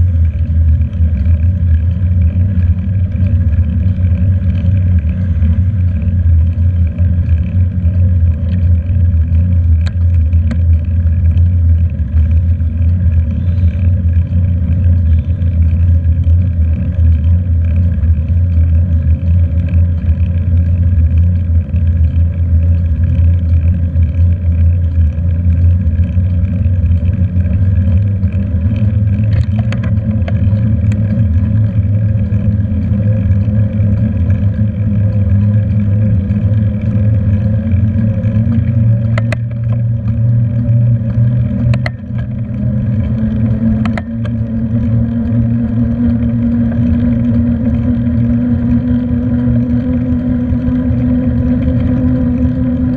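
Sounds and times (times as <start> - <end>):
wind and road vibration rumble: 0.0 - 52.9
faint clicks: 0.2 - 45.4.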